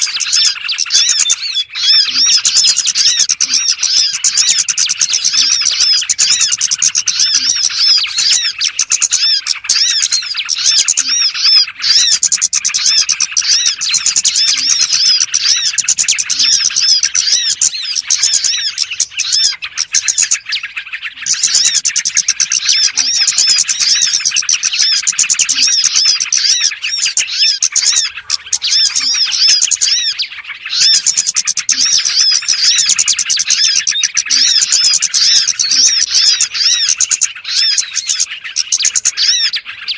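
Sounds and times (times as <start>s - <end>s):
small songbirds chattering and chirping: 0.0s - 39.9s.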